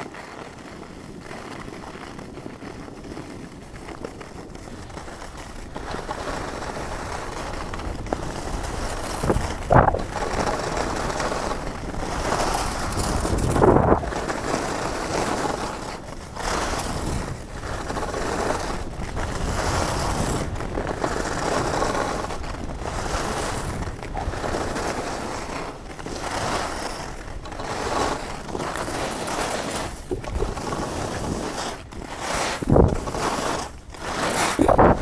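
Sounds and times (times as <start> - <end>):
skis scraping on snow: 0.0 - 35.0
wind noise on microphone: 0.0 - 35.0.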